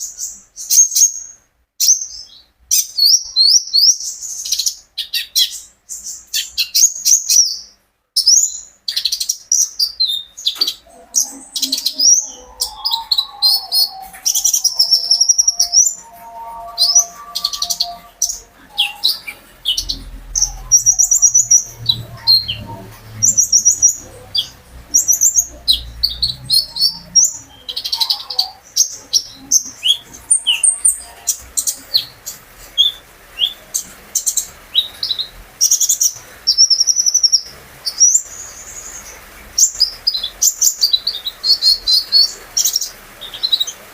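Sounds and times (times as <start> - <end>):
sunbird singing high chirps and trills: 0.0 - 43.8.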